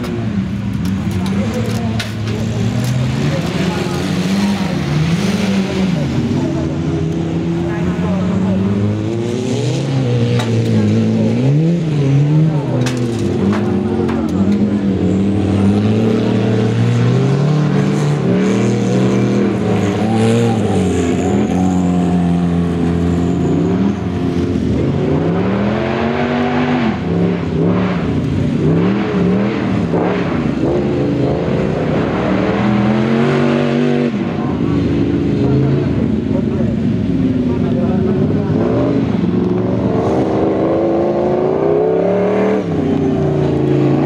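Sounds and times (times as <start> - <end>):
race car engines revving hard: 0.0 - 44.0.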